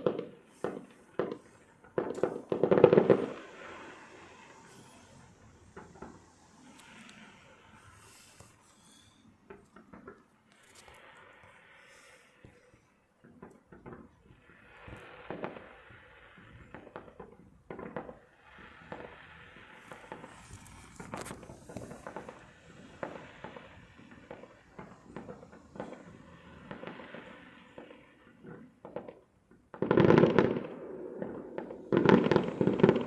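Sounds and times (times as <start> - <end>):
distant fireworks: 0.0 - 33.0.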